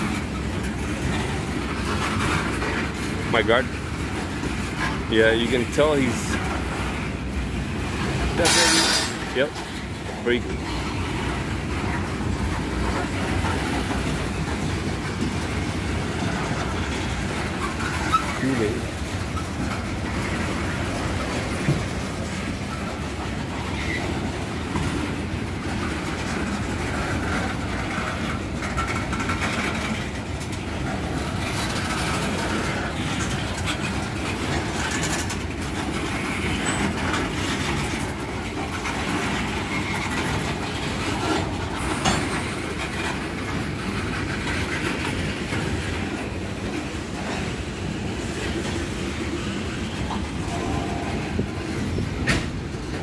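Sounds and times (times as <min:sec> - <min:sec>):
train wheels rumbling on rail: 0:00.0 - 0:53.0
wheels clicking over rail joints: 0:00.0 - 0:53.0.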